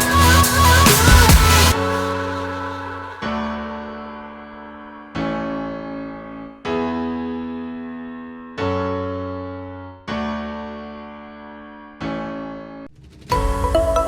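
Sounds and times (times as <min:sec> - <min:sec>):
slow piano chords: 0:00.0 - 0:12.9.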